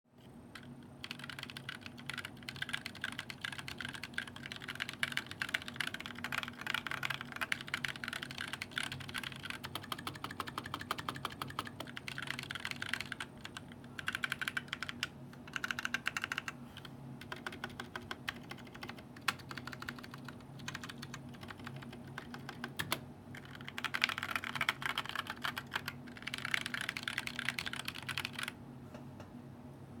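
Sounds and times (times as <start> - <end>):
mechanical keyboard typing: 0.6 - 28.6.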